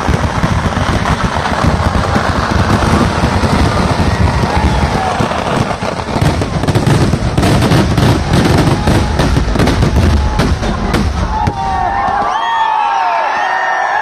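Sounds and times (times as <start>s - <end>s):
firecrackers crackling: 0.0s - 13.5s.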